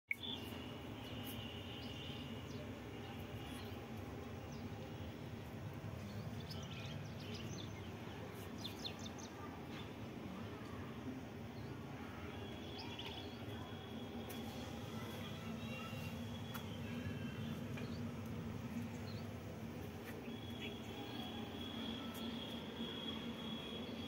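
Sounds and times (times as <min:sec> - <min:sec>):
low background noise: 0:00.2 - 0:24.0.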